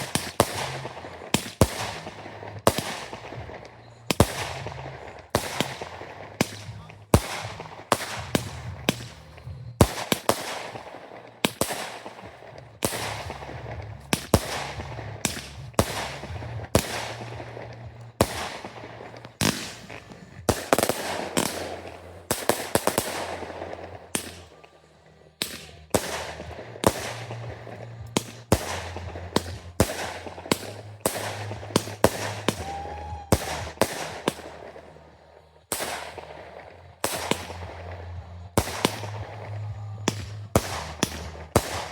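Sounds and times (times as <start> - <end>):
firework shells bursting: 0.0 - 24.7, 25.4 - 35.1.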